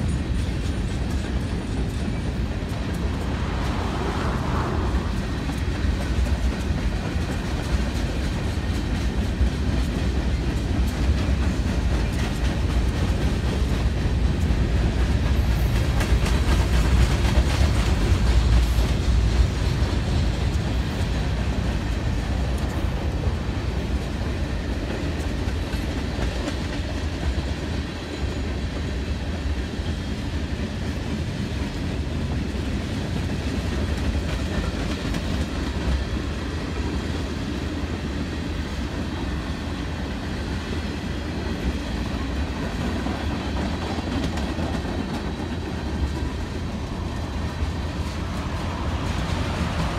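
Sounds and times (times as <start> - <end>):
freight train wheels rumbling: 0.0 - 49.9
wheels clicking over rail joints: 0.0 - 49.9.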